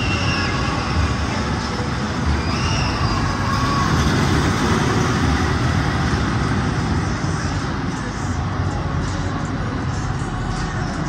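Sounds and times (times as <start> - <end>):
roller coaster rumbling on track: 0.0 - 11.0.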